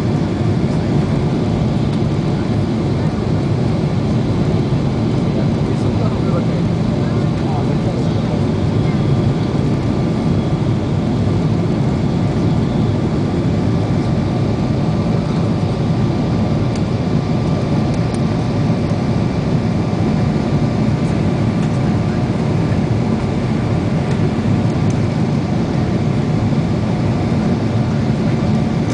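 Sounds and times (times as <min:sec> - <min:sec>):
jet engine drone: 0:00.0 - 0:28.9.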